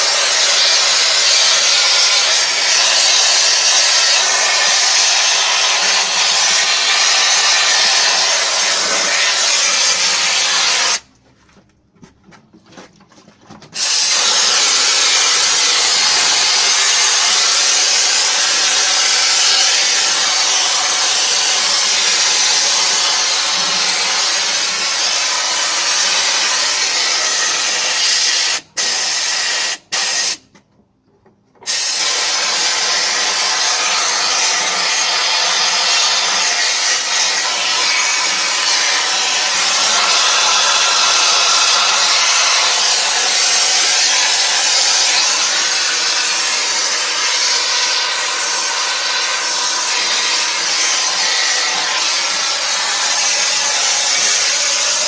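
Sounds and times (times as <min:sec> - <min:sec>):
pressure washer spraying water: 0:00.0 - 0:11.0, 0:13.8 - 0:30.4, 0:31.6 - 0:55.0.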